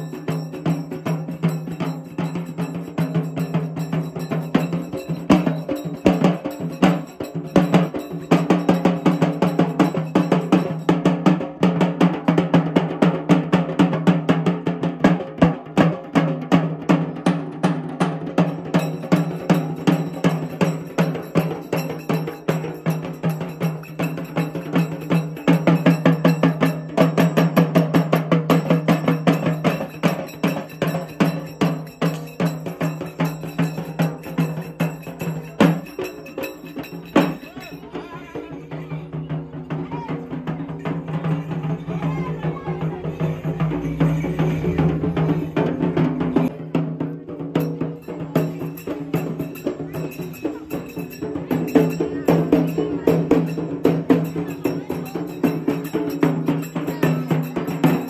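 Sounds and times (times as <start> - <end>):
fast steady drumming: 0.0 - 58.0.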